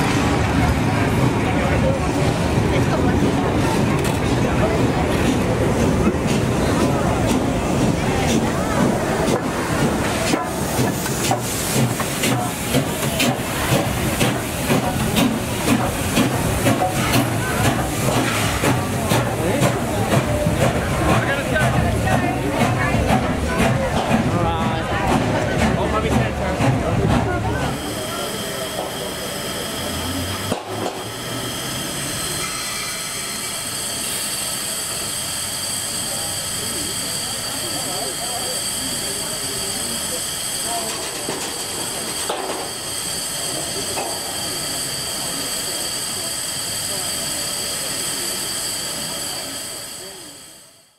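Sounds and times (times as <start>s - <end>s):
steam locomotive hissing: 0.0s - 50.9s.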